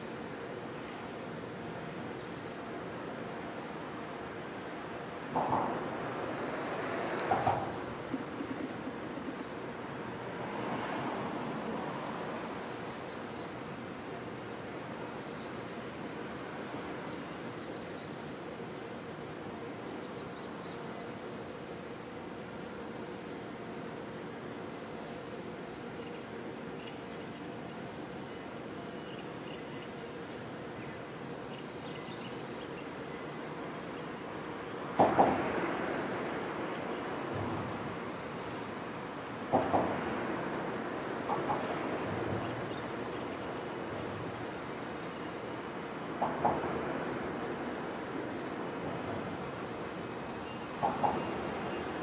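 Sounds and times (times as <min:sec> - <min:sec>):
insect pulsed chirping call: 0:00.0 - 0:05.9, 0:06.6 - 0:11.1, 0:11.8 - 0:23.5, 0:24.2 - 0:35.7, 0:36.4 - 0:39.3, 0:40.0 - 0:41.0, 0:41.8 - 0:46.4, 0:47.2 - 0:52.0
insect high trill: 0:00.0 - 0:21.6, 0:22.4 - 0:39.3, 0:40.0 - 0:41.0, 0:41.8 - 0:46.3, 0:47.1 - 0:52.0
faint background hiss: 0:00.0 - 0:52.0.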